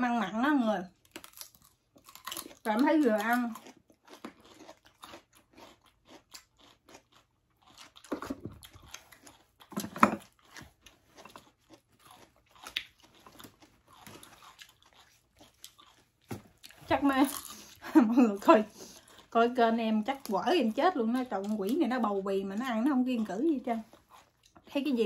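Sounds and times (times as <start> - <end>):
chewing and crunching: 0.9 - 25.0.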